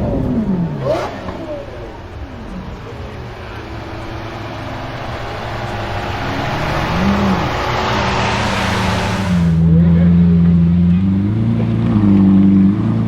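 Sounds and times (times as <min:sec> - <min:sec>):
sports car engine running: 0:00.0 - 0:13.0.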